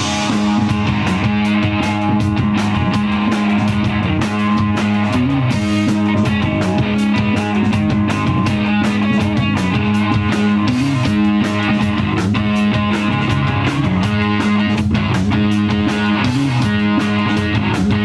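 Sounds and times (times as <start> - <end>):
drum kit beat with cymbal hits: 0.0 - 18.0
electric bass: 0.0 - 18.0
electric guitar: 0.0 - 18.0.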